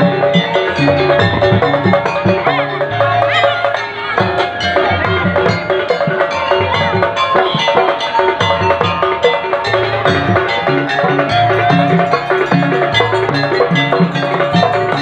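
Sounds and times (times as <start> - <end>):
dance music with percussion: 0.0 - 15.0.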